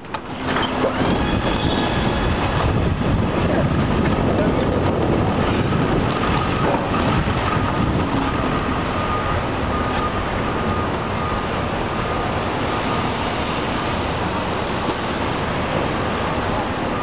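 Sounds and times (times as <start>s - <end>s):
street traffic: 0.0s - 17.0s
wind on microphone: 0.0s - 17.0s.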